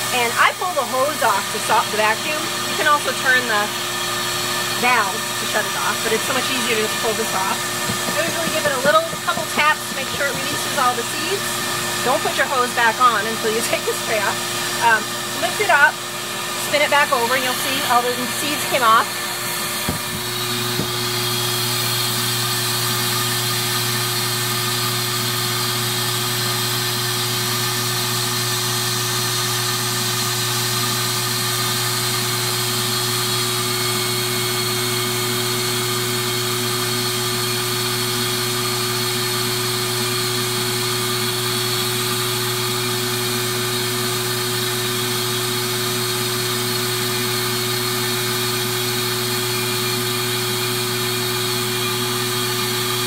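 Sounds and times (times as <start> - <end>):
vacuum motor humming: 0.0 - 53.0.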